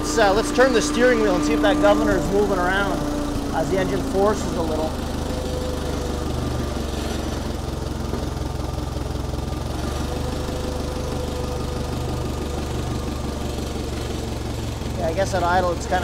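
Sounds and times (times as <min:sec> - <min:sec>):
forklift engine idling: 0:00.0 - 0:16.0.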